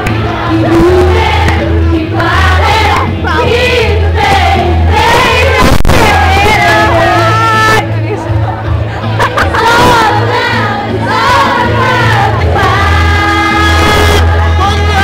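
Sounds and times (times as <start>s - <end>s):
girls singing: 0.0s - 7.6s, 9.3s - 15.0s
loud backing music: 0.0s - 15.0s.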